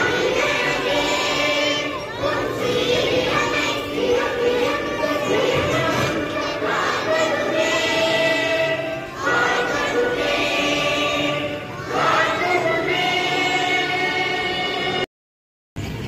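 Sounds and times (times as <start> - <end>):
children singing in unison: 0.0 - 15.1.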